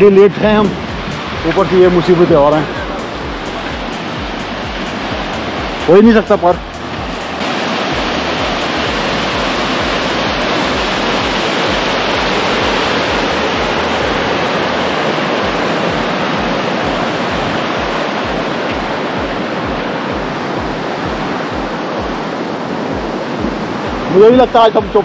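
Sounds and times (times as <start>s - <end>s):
water rushing down slope: 0.0s - 25.0s.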